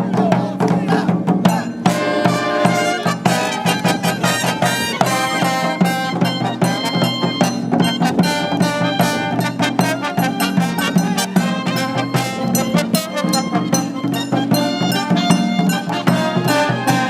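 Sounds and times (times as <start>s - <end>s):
brass band playing: 1.5s - 17.0s.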